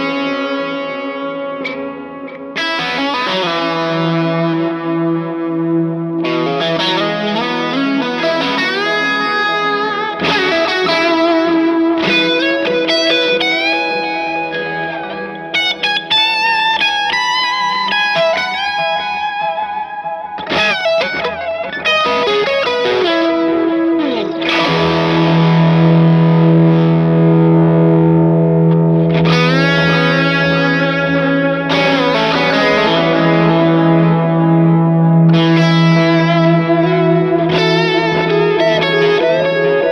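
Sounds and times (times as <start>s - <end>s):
electric guitar with delay and reverb: 0.0s - 39.9s.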